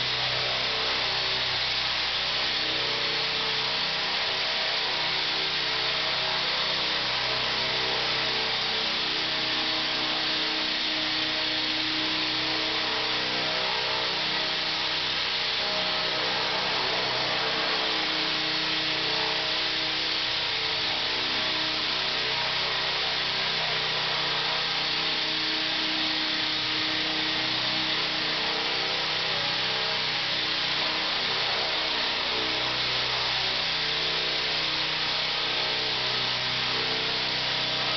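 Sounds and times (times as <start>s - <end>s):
model helicopter hovering: 0.0s - 37.9s.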